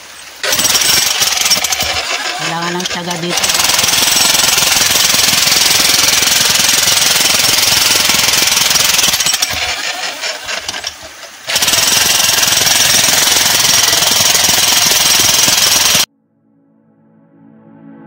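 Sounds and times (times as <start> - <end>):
demolition hammer chiselling rock: 0.4 - 16.1.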